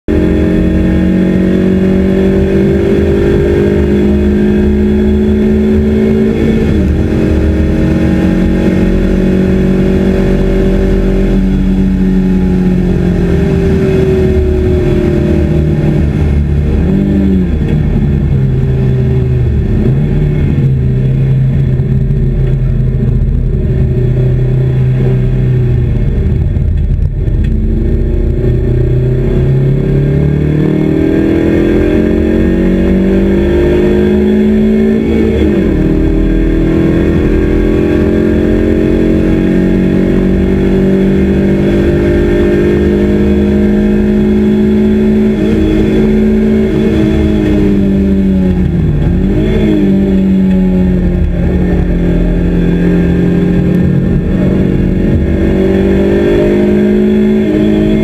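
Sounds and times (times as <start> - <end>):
car engine accelerating: 0.1 - 58.0
road and wind noise: 0.1 - 58.0.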